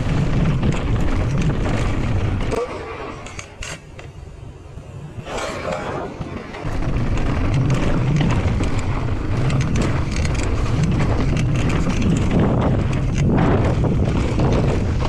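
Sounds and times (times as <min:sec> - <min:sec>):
wind buffeting microphone: 0:00.0 - 0:03.3, 0:04.2 - 0:15.0
bike frame and chain rattling: 0:00.0 - 0:03.9, 0:06.6 - 0:15.0.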